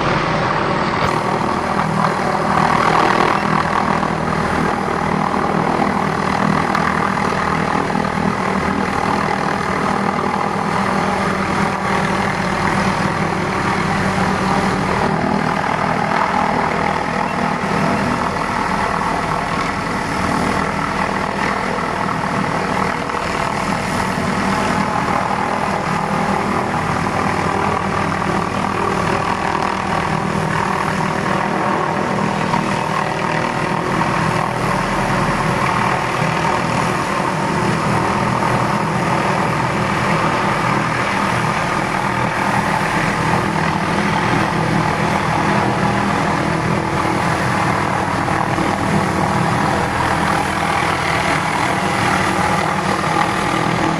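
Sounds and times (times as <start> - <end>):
helicopter engine and rotors: 0.0 - 53.9.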